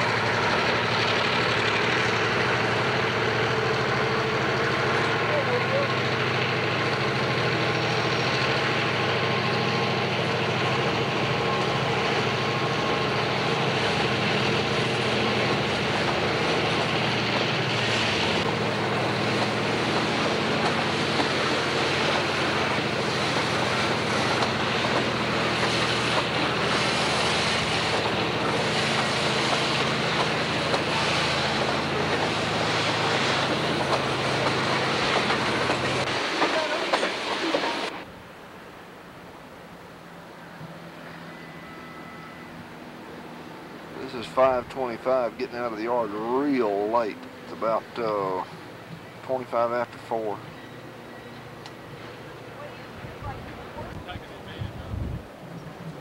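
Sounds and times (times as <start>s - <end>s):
freight train rumble and wheel clatter: 0.0s - 56.0s.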